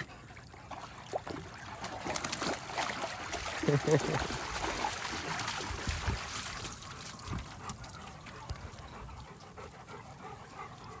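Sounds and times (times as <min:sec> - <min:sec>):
water trickling and splashing: 0:00.0 - 0:11.0
dogs panting: 0:02.2 - 0:11.0.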